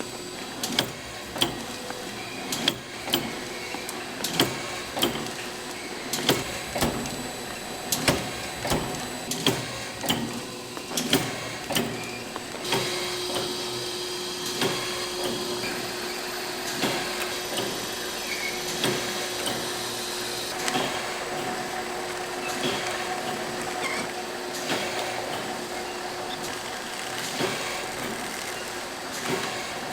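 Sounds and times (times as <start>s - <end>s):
machinery rhythmic clacks: 0.0s - 29.9s.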